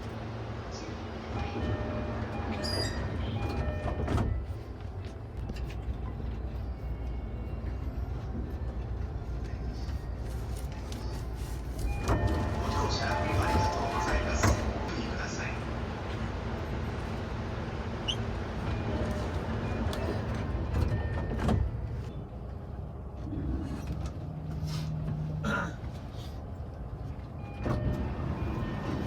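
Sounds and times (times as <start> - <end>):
train sliding doors: 0.0 - 6.3, 8.3 - 29.0
steady train noise: 0.0 - 29.0.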